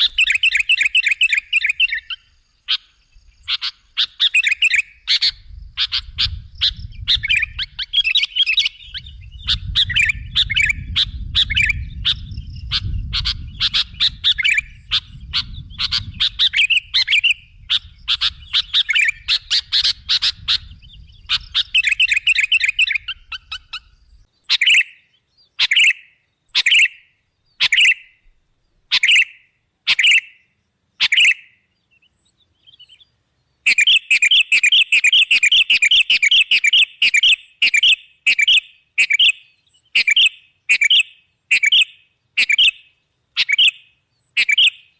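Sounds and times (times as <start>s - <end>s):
bird chattering song: 0.0s - 44.9s.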